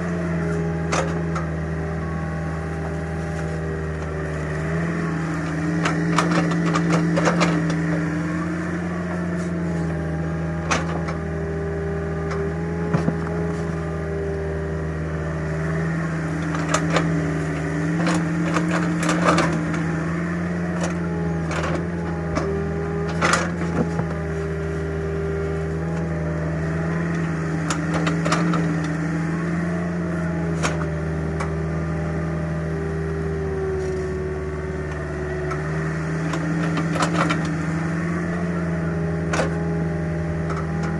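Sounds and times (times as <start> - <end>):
mini excavator engine running: 0.0 - 40.9.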